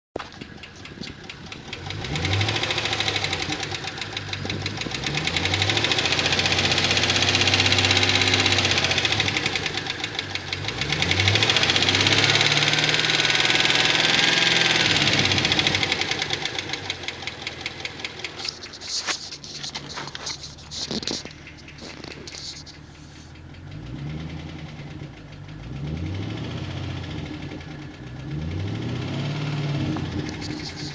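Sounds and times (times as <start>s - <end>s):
fast even engine ticking: 0.2s - 30.9s
car engine revving: 0.4s - 30.9s.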